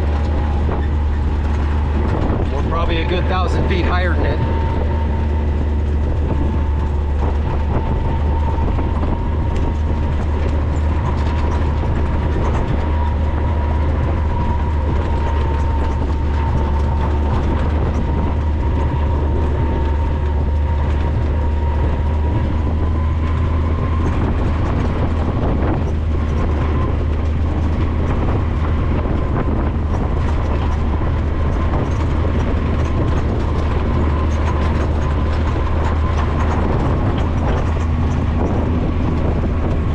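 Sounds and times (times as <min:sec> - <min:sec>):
faint engine whine: 0:00.0 - 0:39.9
light rattling and clicking: 0:00.0 - 0:39.9
off-road vehicle engine drone: 0:00.0 - 0:39.9.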